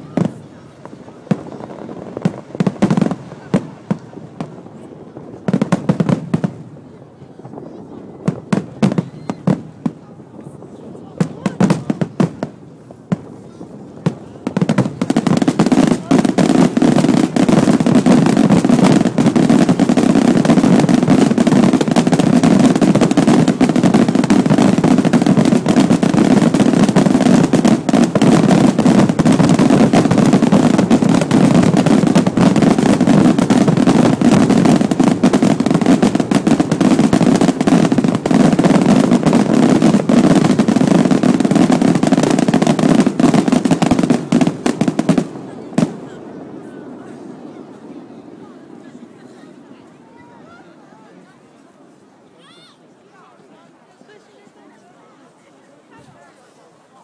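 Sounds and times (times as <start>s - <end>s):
firecrackers crackling rapidly: 0.0s - 50.6s.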